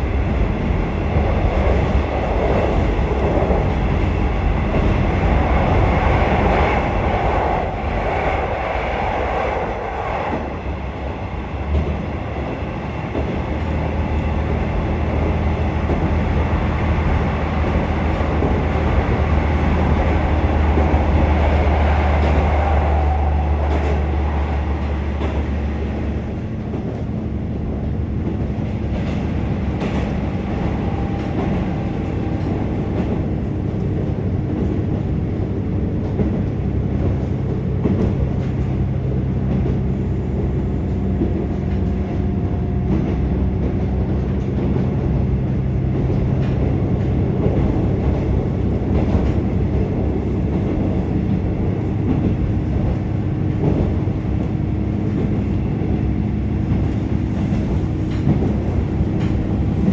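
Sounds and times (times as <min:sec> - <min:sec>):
wheel and rail noise: 0:00.0 - 0:59.9.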